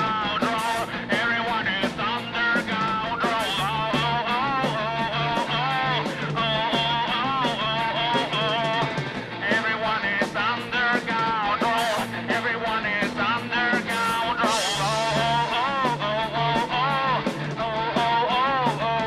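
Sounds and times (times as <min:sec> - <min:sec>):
drum hits: 0:00.0 - 0:19.0
lead guitar line bending: 0:00.0 - 0:19.0
steady bass: 0:00.0 - 0:19.0.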